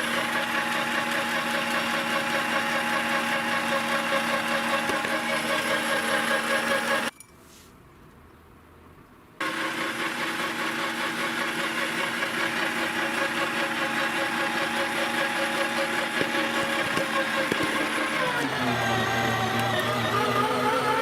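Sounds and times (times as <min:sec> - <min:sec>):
electric meat grinder running: 0:00.0 - 0:07.1, 0:09.4 - 0:21.0.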